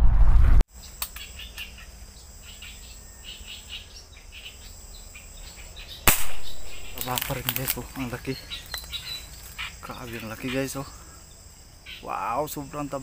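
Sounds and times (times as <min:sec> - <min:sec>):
birds chirping: 0:00.7 - 0:13.0
crickets chirping: 0:00.7 - 0:13.0
high insect tone: 0:00.7 - 0:13.0.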